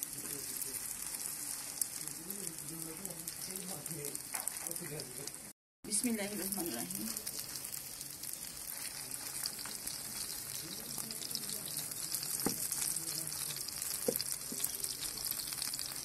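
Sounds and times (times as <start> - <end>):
patties sizzling in oil: 0.0 - 16.0.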